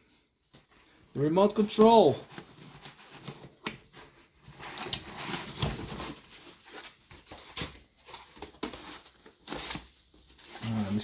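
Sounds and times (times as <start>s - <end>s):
foam packaging rustling: 2.1s - 11.0s.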